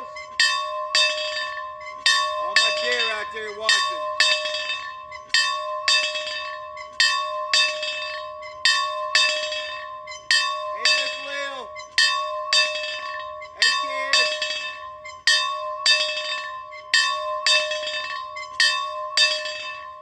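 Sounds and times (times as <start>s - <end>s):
bell ringing: 0.0s - 20.0s.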